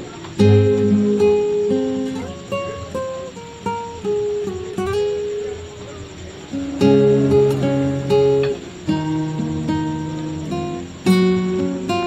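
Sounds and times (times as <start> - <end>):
acoustic guitar plucked notes: 0.0 - 12.0
acoustic guitar strummed chords: 0.0 - 12.0.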